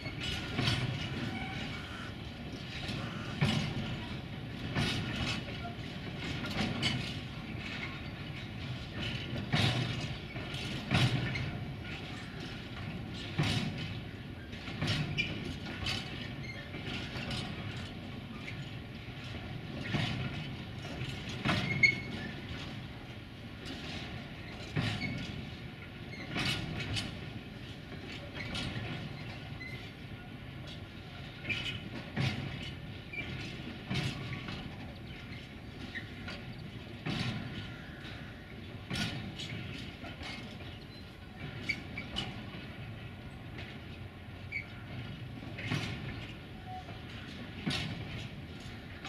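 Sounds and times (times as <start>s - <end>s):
freight wheels clacking over rail joints: 0.0s - 49.0s
train rolling rumble: 0.0s - 49.0s.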